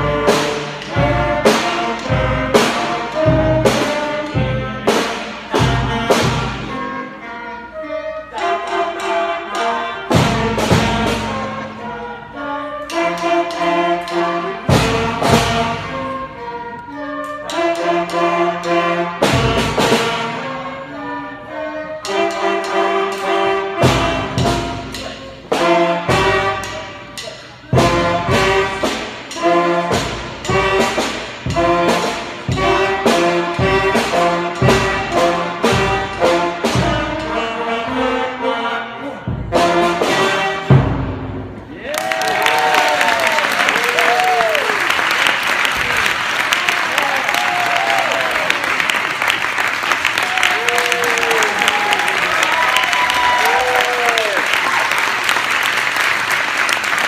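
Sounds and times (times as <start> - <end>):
concert band playing: 0.0 - 57.0.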